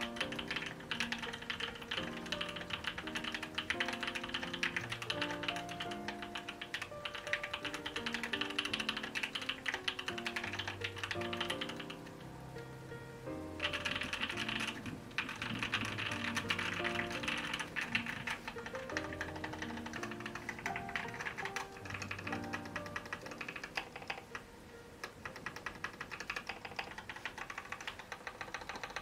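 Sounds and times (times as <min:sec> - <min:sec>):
mechanical keyboard typing: 0:00.0 - 0:12.2, 0:13.6 - 0:24.4, 0:25.0 - 0:29.0.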